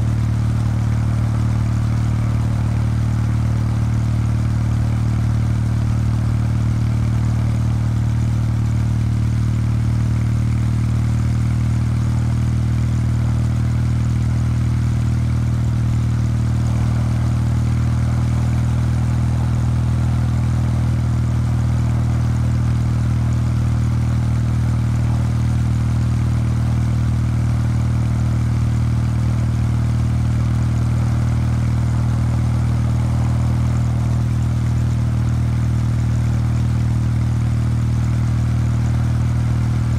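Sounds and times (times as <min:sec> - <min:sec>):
motorcycle engine cruising: 0:00.0 - 0:13.0, 0:13.8 - 0:39.9.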